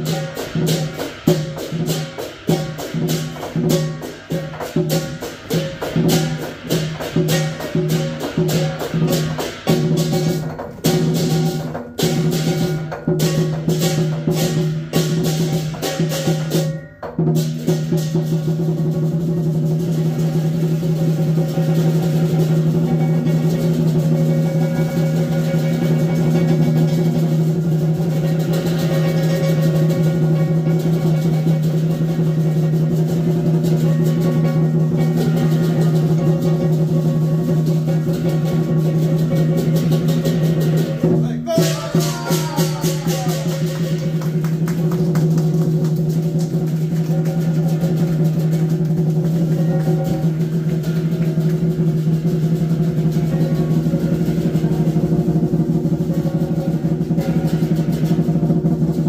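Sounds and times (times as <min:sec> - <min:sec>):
cymbals crashing: 0:00.0 - 0:59.0
rapid drumming: 0:00.0 - 0:59.0.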